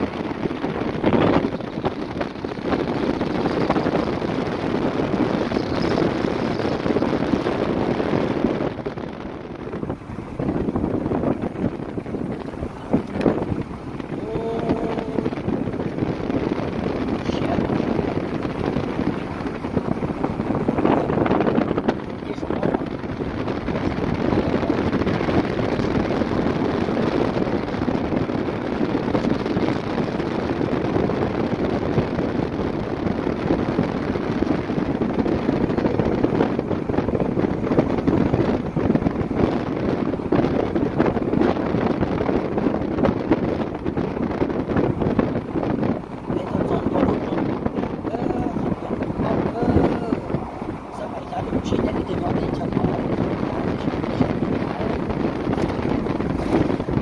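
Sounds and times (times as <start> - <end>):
low continuous rumble: 0.0 - 57.0
wind buffeting microphone: 0.0 - 57.0.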